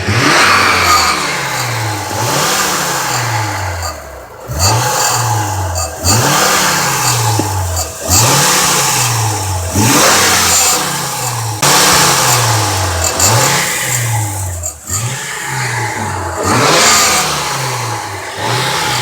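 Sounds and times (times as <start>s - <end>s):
car engine revving: 0.0s - 19.0s
metallic exhaust rattle: 0.0s - 19.0s.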